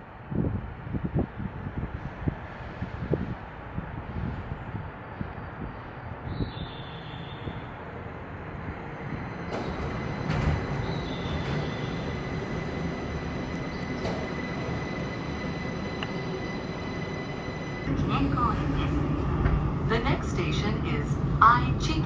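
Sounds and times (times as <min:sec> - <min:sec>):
train rushing hum: 0:00.0 - 0:22.0.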